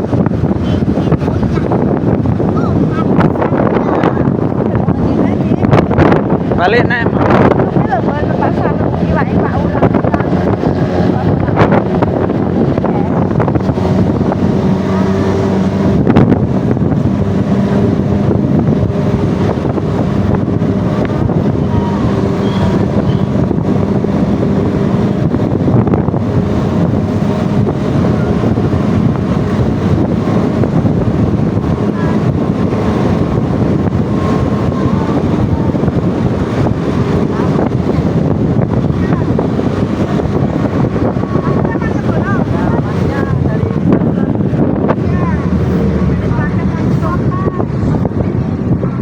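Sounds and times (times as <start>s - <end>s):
vehicle engine running: 0.0s - 49.0s
wind buffeting microphone: 0.0s - 49.0s.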